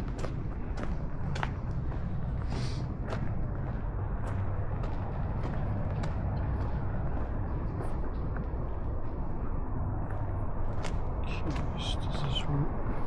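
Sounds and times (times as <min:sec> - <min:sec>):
footsteps walking: 0:00.0 - 0:11.8.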